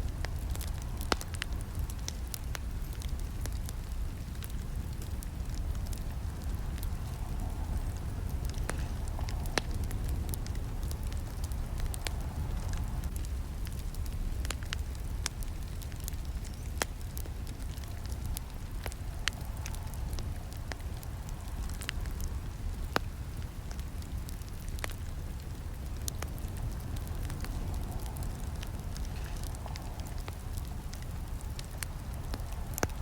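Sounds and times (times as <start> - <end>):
burning wood crackling: 0.0 - 33.0
campfire flames rumbling: 0.0 - 33.0.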